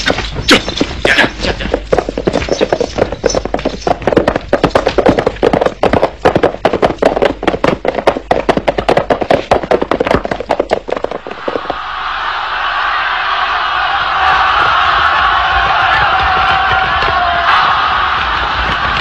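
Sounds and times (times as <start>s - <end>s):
horses galloping: 0.0s - 19.0s.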